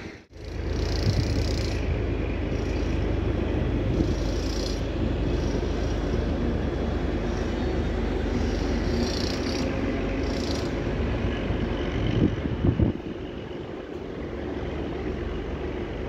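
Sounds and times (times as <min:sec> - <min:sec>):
diesel railcar engine rumbling: 0:00.0 - 0:16.0.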